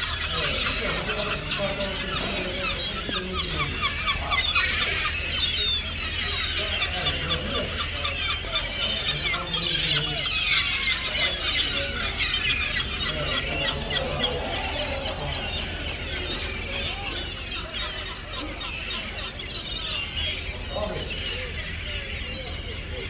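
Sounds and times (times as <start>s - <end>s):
gulls calling: 0.0s - 23.0s
low steady rumble: 0.0s - 23.0s.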